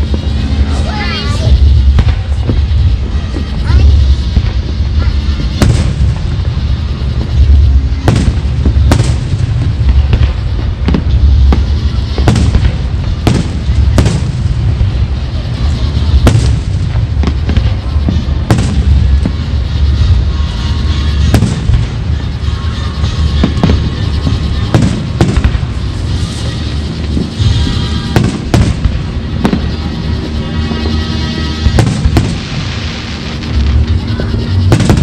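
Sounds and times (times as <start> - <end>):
fireworks bangs and booms: 0.0 - 35.0
low rumble of fireworks: 0.0 - 35.0.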